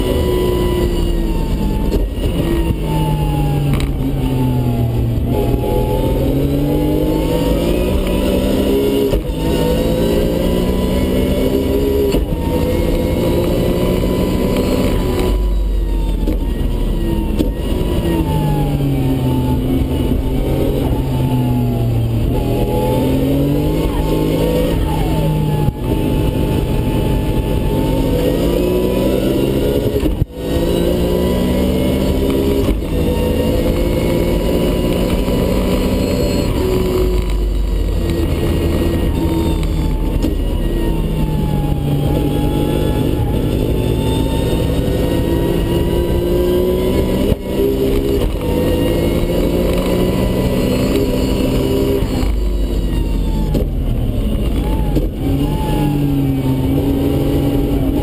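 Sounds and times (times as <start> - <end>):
car engine at full throttle: 0.0 - 58.0.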